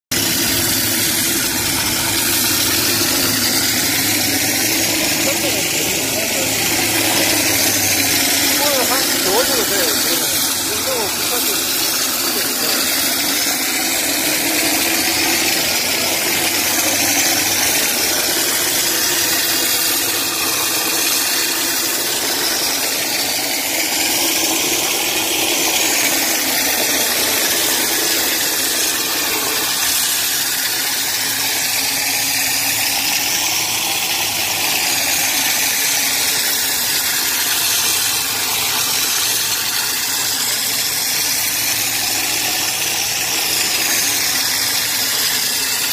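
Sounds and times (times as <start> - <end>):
machine running: 0.1 - 45.9
spray nozzle hissing: 0.2 - 45.9.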